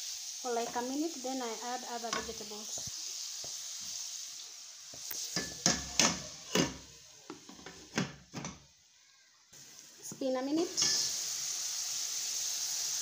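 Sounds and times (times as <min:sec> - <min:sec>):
vegetables sizzling in a pot: 0:00.0 - 0:13.0.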